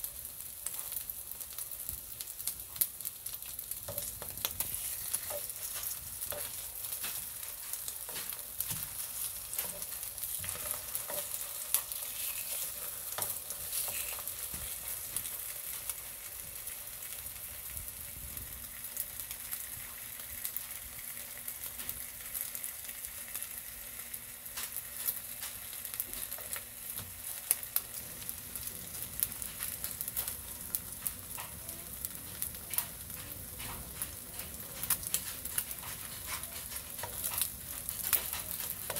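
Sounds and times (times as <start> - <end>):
slices frying in oil: 0.0 - 38.9.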